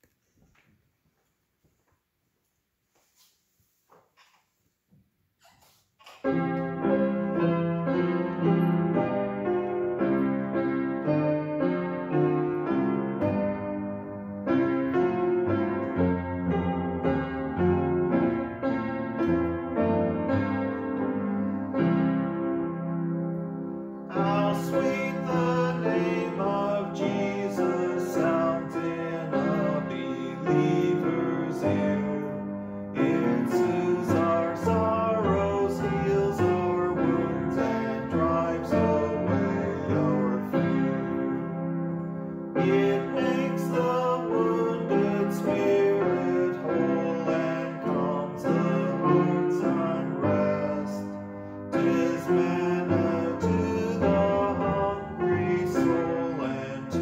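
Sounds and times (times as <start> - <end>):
piano playing hymn chords: 6.2 - 57.0.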